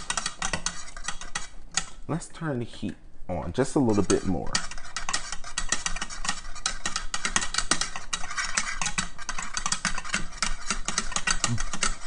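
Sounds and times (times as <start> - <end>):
whisk scraping a saucepan: 0.0 - 2.0, 3.6 - 12.0.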